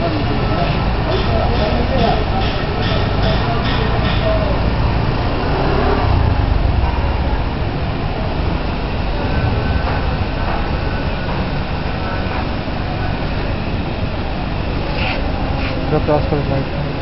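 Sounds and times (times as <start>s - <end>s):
steady rumbling background noise: 0.0s - 17.0s.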